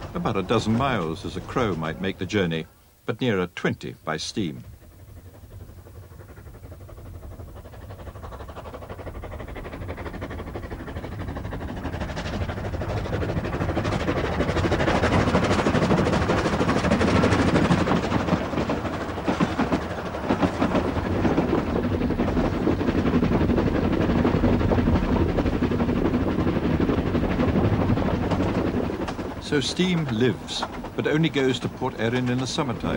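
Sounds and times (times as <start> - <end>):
steam locomotive exhaust beats: 0.0 - 32.9
train rumble: 0.0 - 32.9.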